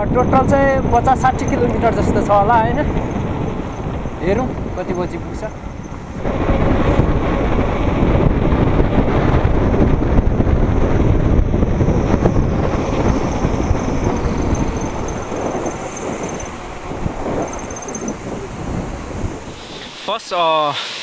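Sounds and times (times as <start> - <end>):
wind rushing over microphone: 0.0 - 20.1
bike tyre noise on asphalt: 0.0 - 21.0.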